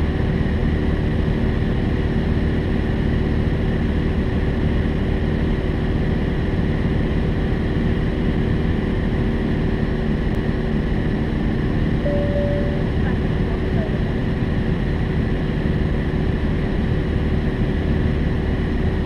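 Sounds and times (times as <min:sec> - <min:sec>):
propeller airplane engine drone: 0:00.0 - 0:19.0.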